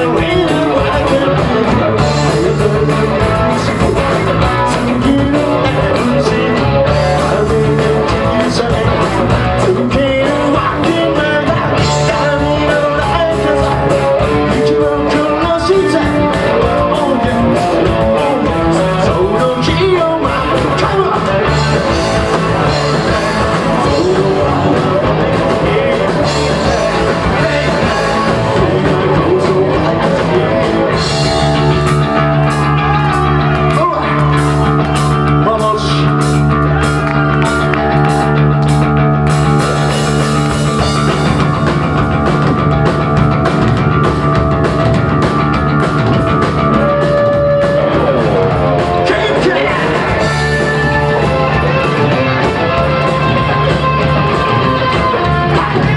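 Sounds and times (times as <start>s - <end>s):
person singing: 0.0s - 41.5s, 46.7s - 55.9s
live rock band playing: 0.0s - 55.9s.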